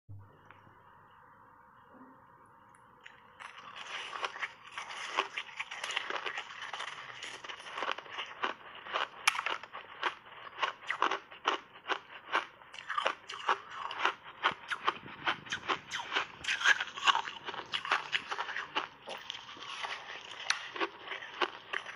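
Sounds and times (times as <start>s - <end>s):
ice crunching while chewed: 3.0s - 21.9s.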